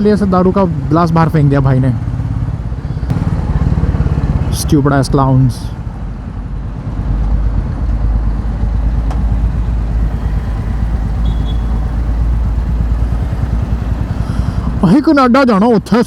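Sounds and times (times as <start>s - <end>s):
motorcycle engine running: 2.1s - 16.0s.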